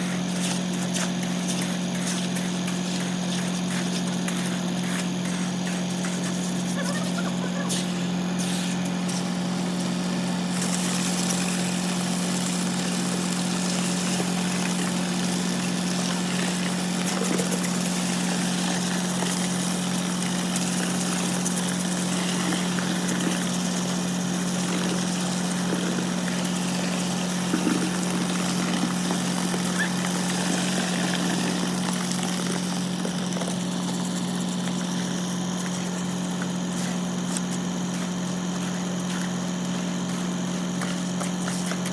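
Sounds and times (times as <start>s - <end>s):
construction machinery engine running: 0.0s - 41.9s.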